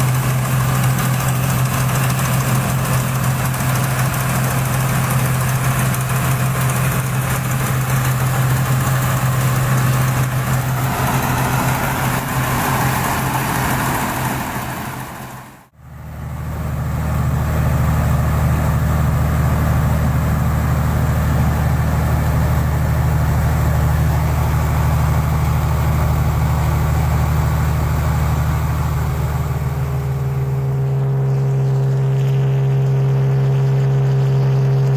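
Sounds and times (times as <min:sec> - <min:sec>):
combine harvester engine running: 0:00.0 - 0:34.9.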